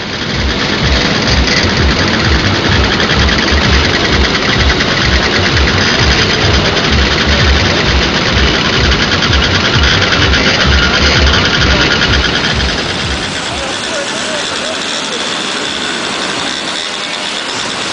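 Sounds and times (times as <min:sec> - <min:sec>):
many moped engines rattling: 0:00.0 - 0:17.9.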